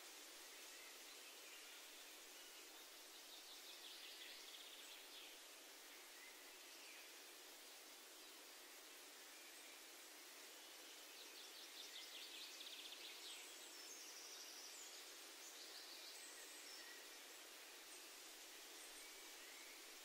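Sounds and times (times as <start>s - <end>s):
outdoor ambient hiss: 0.0s - 20.0s.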